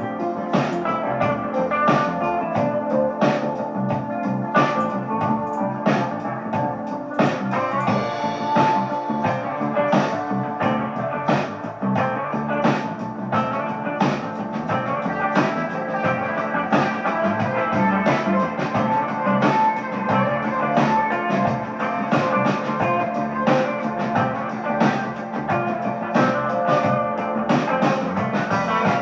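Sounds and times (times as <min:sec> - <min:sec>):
rock music with drums and guitar: 0:00.0 - 0:29.0.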